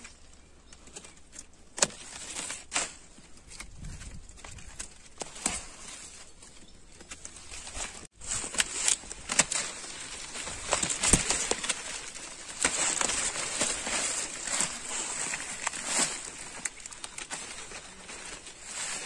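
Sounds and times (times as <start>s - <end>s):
leaves and stems rustling: 0.0s - 19.0s.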